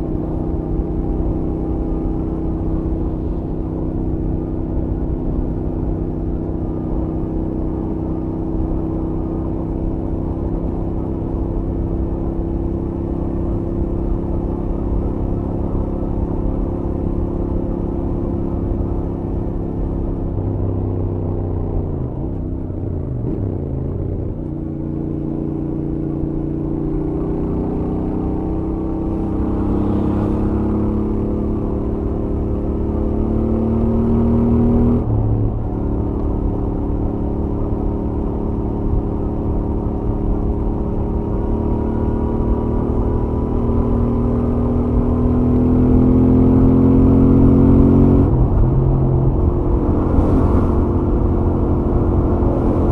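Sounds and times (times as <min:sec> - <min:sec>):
motorcycle engine at highway speed: 0:00.0 - 0:52.9.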